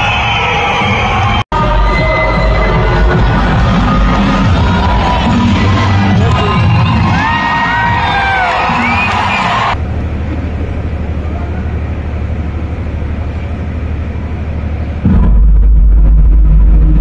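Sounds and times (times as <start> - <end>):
crowded arena rumble: 0.0 - 17.0
loud low hum: 1.3 - 17.0.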